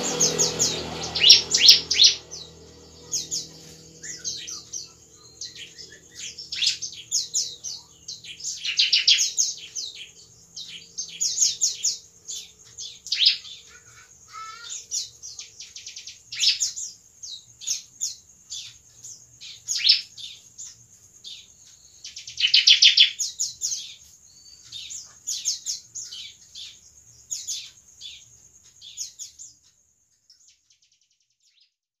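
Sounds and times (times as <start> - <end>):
bird singing rapid chirps and trills: 0.0 - 31.8.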